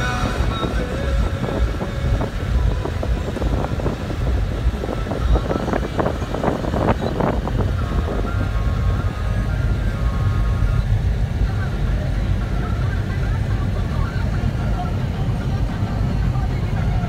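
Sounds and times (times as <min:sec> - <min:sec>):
engine and tyres rumbling: 0:00.0 - 0:17.0
wind buffeting microphone: 0:00.0 - 0:17.0.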